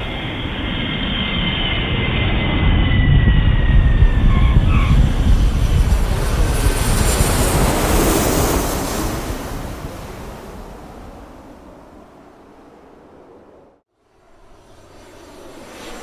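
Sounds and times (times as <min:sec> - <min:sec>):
airliner cabin engine rush: 0:00.0 - 0:16.0.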